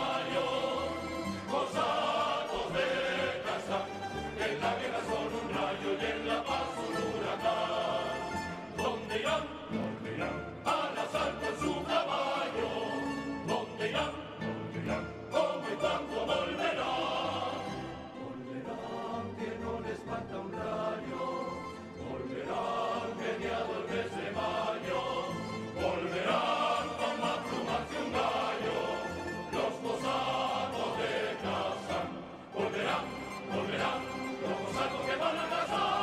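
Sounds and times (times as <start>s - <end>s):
male choir singing: 0.0s - 36.0s.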